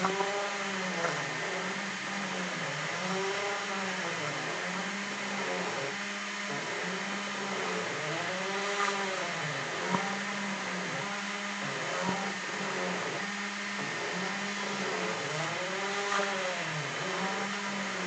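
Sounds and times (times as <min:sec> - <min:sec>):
spindle motor running: 0:00.0 - 0:18.0
stepper motor tones: 0:00.0 - 0:18.0.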